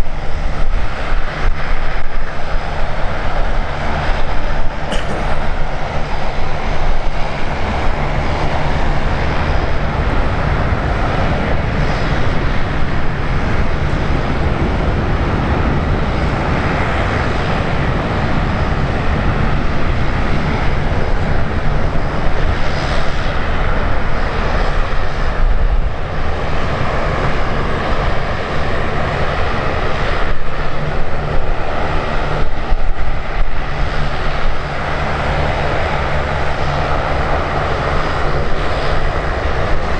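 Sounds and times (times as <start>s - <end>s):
airliner engines roaring: 0.0s - 39.9s.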